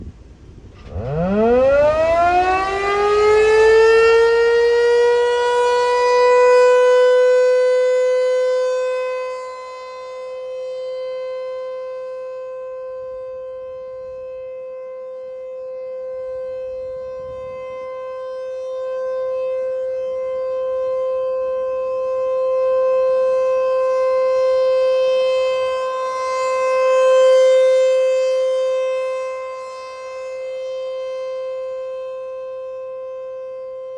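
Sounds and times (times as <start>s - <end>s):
warning siren wailing: 0.5s - 33.9s.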